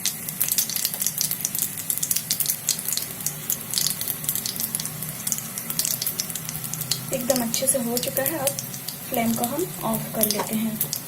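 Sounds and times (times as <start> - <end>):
oil sizzling and crackling in a pan: 0.0 - 11.0.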